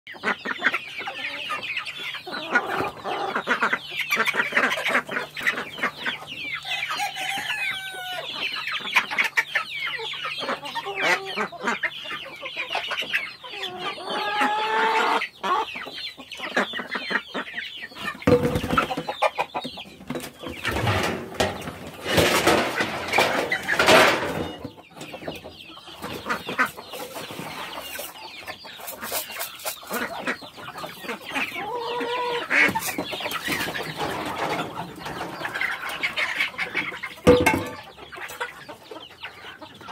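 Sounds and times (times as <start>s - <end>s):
chickens clucking: 0.1s - 39.9s.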